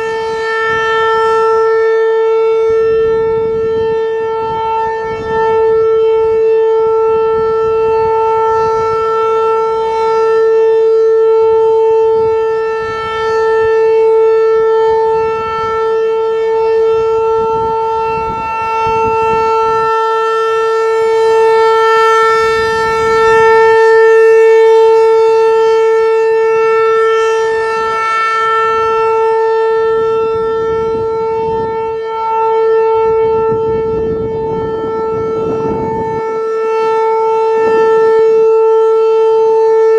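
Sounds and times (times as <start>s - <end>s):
rotating warning siren tone: 0.0s - 39.9s.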